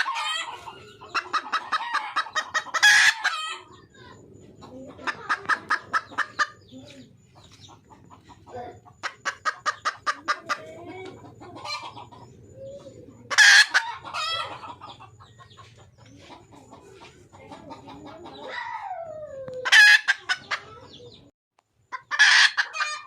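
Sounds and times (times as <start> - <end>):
hen clucking rapidly: 0.0 - 19.0, 19.6 - 21.3, 21.9 - 23.0
junglefowl hen calling: 0.0 - 21.2, 21.9 - 23.0.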